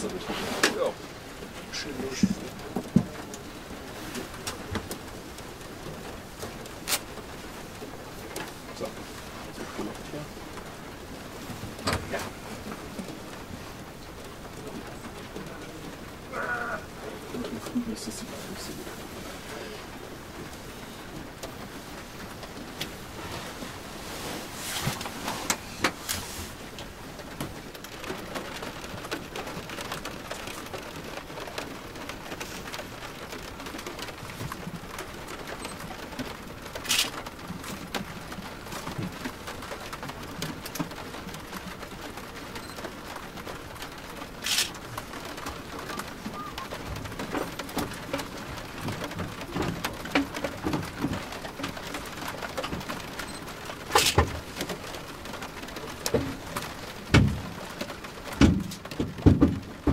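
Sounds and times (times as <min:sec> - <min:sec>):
rain pattering on aircraft: 0:00.0 - 0:59.9.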